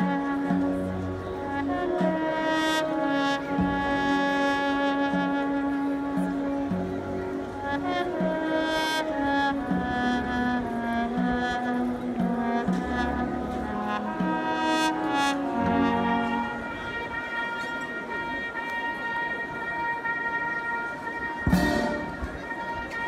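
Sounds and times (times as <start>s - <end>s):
brass band funeral march: 0.0s - 23.0s.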